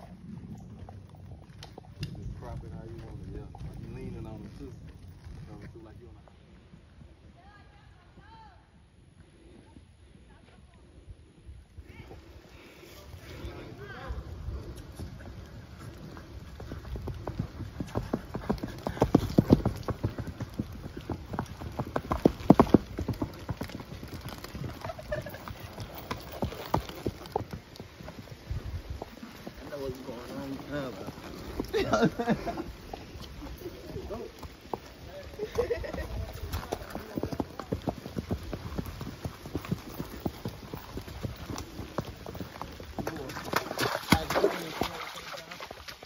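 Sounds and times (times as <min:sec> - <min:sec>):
horse hoofbeats on dirt: 0:00.0 - 0:07.4, 0:14.1 - 0:46.0.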